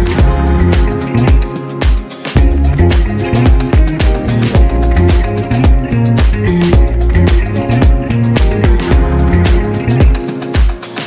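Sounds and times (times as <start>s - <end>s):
upbeat instrumental music: 0.0s - 11.0s.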